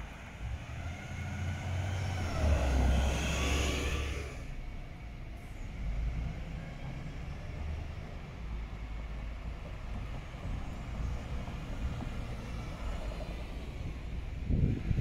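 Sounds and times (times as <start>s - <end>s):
bus passing by: 0.0s - 15.0s
low rumble of approaching bus: 0.0s - 15.0s.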